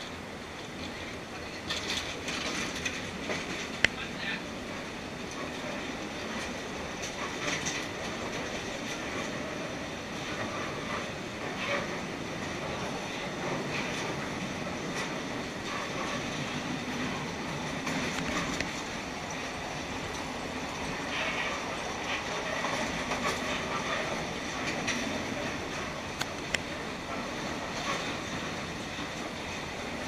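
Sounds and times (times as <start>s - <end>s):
train wheels rumbling on rails: 0.0s - 30.0s
sharp track clacks: 1.6s - 4.2s, 4.8s - 30.0s.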